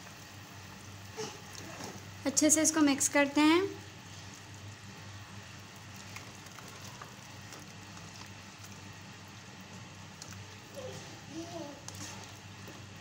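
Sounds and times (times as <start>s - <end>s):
gravy bubbling in a wok: 0.0s - 2.2s, 3.0s - 13.0s.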